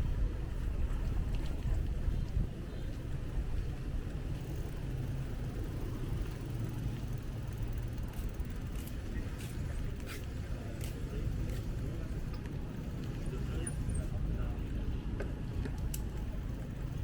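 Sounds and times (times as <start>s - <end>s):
street traffic rumble: 0.0s - 17.0s
wind: 0.0s - 17.0s.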